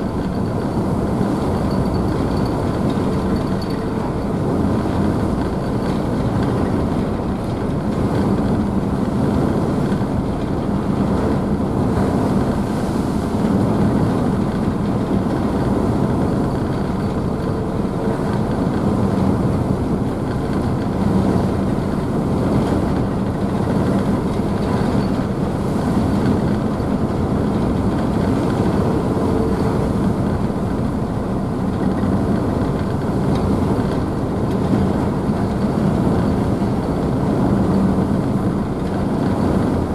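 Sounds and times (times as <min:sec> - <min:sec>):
churning wake and spray: 0:00.0 - 0:39.9
ferry engines droning: 0:00.0 - 0:39.9.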